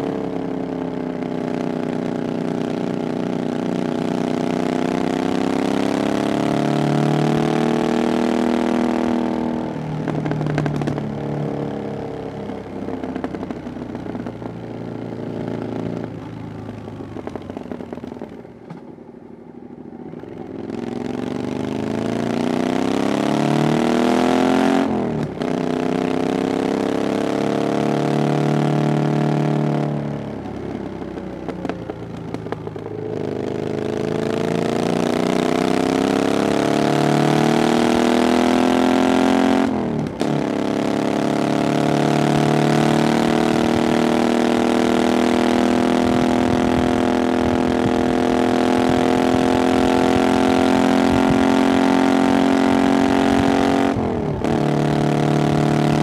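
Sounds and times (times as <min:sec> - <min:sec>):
motorcycle engine revving: 0:00.0 - 0:18.9, 0:19.6 - 0:56.0.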